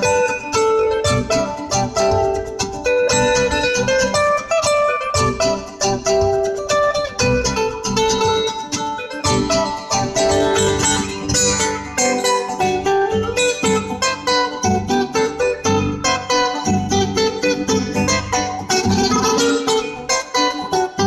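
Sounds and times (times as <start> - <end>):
acoustic guitar plucking: 0.0 - 21.0.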